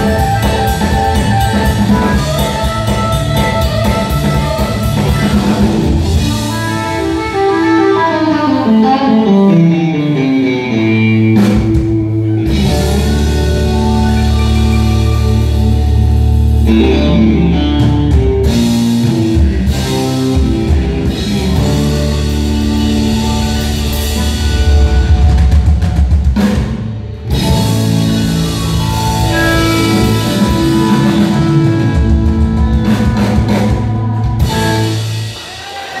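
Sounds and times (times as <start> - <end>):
electric bass guitar: 0.0 - 35.4
drums: 0.0 - 36.0
electric guitar: 0.0 - 36.0.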